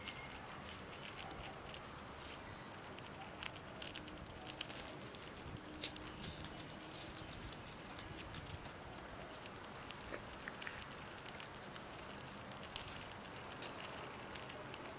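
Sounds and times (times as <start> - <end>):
rat chewing crunching clicks: 0.0 - 14.9.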